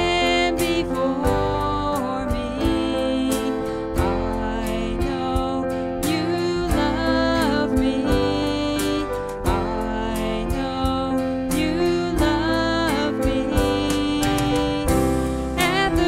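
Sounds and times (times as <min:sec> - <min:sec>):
acoustic guitar: 0:00.0 - 0:16.0
drum kit hits: 0:00.0 - 0:16.0
electric bass: 0:00.0 - 0:16.0
keyboard playing: 0:00.0 - 0:16.0
woman singing lead melody: 0:00.0 - 0:16.0.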